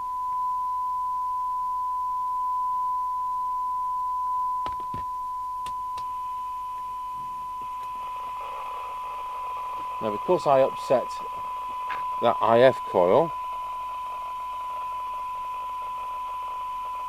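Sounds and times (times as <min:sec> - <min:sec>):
faint higher tones: 0:00.0 - 0:17.0
steady test tone: 0:00.1 - 0:17.0.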